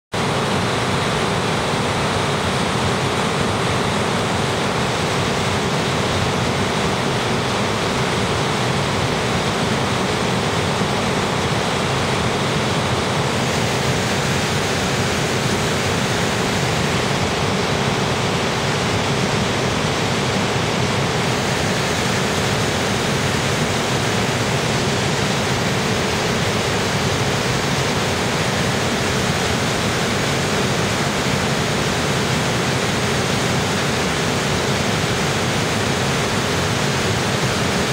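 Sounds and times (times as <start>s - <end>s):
waterfall roaring over rock: 0.2s - 37.9s.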